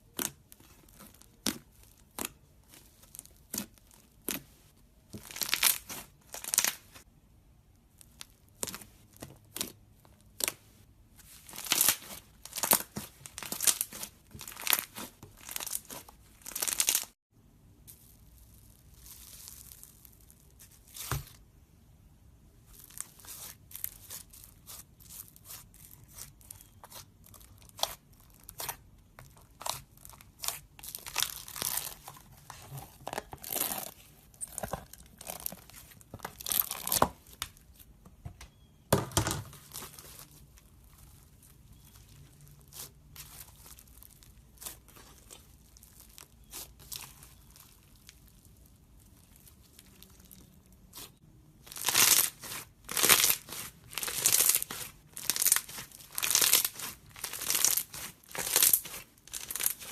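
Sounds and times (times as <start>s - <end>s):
slime crackling and popping: 0.0s - 7.0s, 11.3s - 17.2s, 17.8s - 21.2s, 22.8s - 37.7s, 39.6s - 59.9s.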